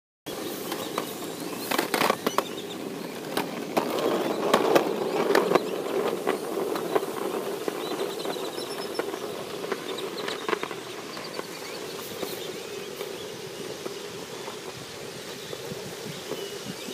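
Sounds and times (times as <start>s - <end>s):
small wheels rolling on pavement: 0.3s - 16.9s.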